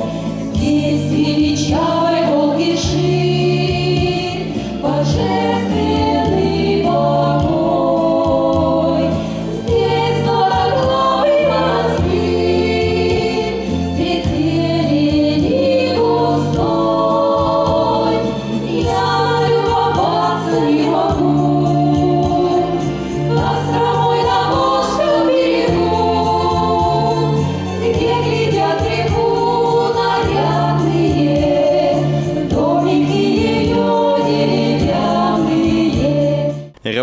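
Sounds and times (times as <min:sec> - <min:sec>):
accompaniment with bass notes: 0:00.0 - 0:37.0
voices singing slow song: 0:00.0 - 0:37.0.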